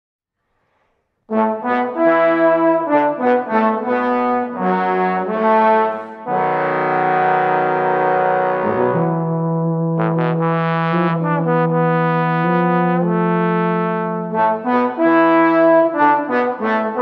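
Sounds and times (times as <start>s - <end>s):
trombone quartet playing chords: 1.3s - 17.0s.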